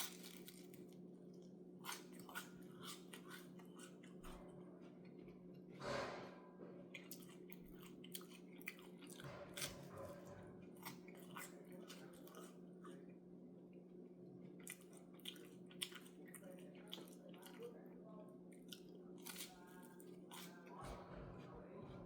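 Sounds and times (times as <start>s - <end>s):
person chewing toast: 0.0s - 5.7s, 6.8s - 13.2s, 14.4s - 17.8s, 18.5s - 20.7s
low electrical hum: 0.0s - 22.0s.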